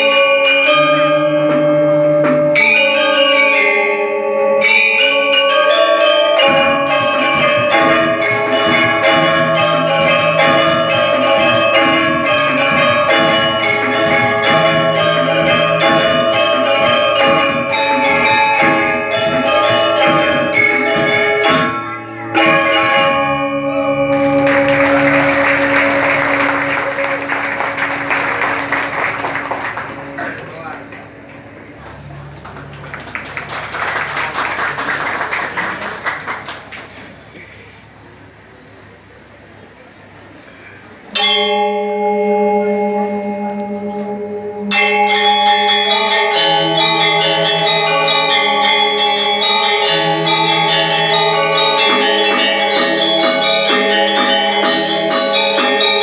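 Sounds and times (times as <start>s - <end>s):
mallet percussion ensemble music: 0.0s - 36.5s, 41.1s - 56.0s.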